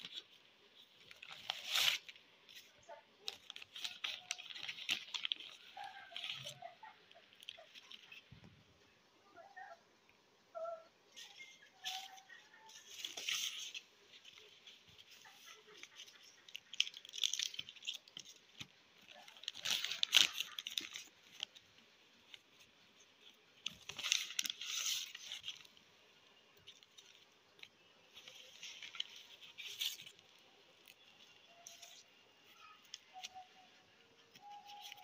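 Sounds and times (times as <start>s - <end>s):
paper and plastic rustling: 0.0s - 8.6s, 11.2s - 35.0s.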